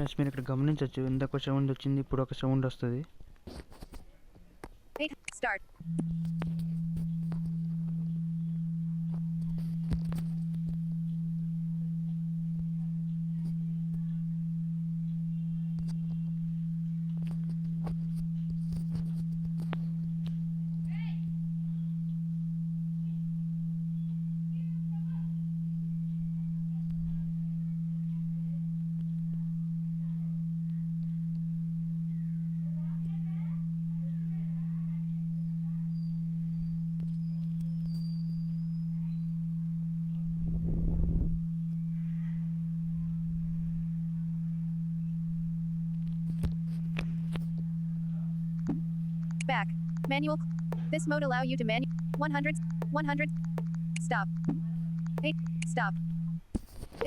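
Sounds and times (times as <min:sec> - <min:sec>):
low pure tone from phone speaker: 0:05.8 - 0:57.0.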